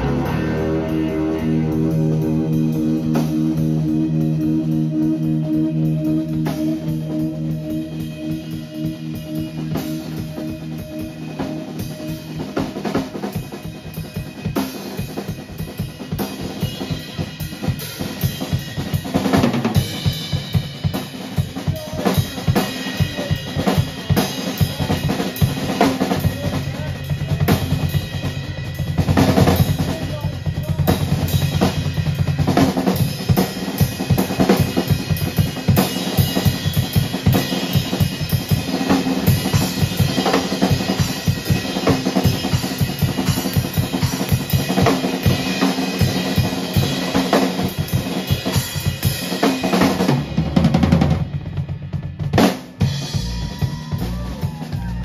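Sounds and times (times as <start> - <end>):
rock drum kit playing: 0.0 - 55.0.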